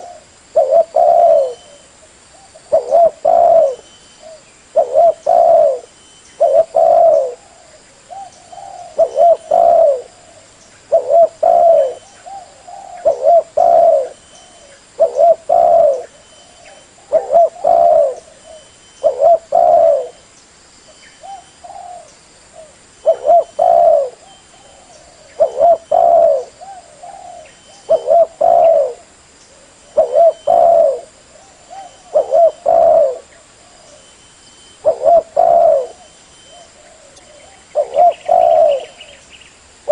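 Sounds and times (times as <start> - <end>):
dove cooing: 0.0 - 20.2, 21.2 - 34.1, 34.7 - 39.2.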